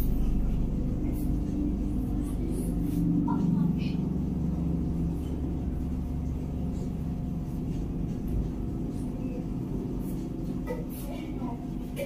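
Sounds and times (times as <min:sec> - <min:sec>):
low rumble: 0:00.0 - 0:10.7
constant hum: 0:00.0 - 0:12.0.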